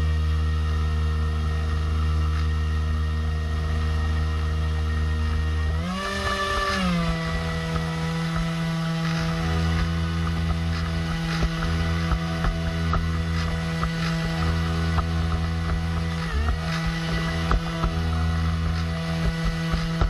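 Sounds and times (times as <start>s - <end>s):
model airboat motor and propeller: 0.0s - 20.0s.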